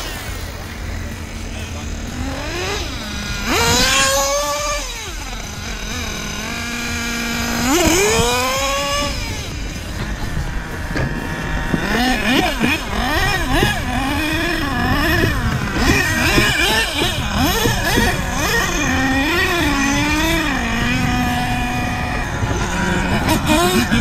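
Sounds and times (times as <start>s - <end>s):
model car motor revving: 0.0s - 24.0s.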